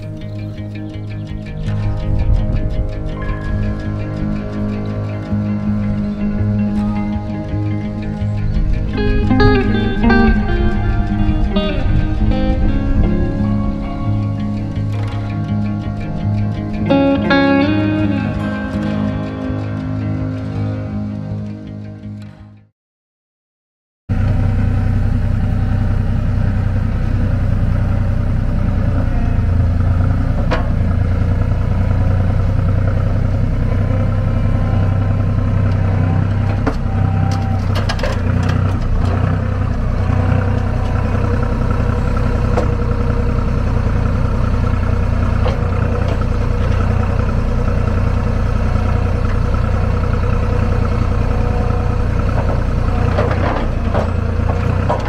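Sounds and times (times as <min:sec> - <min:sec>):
loader engine running: 0:00.0 - 0:22.6, 0:24.1 - 0:55.0.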